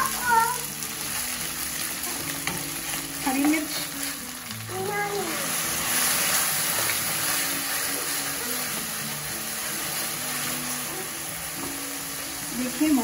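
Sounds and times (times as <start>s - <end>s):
faint background music: 0.0s - 13.0s
food sizzling in hot oil: 0.0s - 13.0s.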